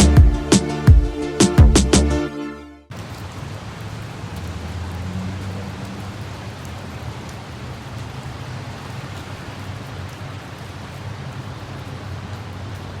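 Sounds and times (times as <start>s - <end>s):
steady rain hiss: 0.0s - 2.2s, 2.9s - 13.0s.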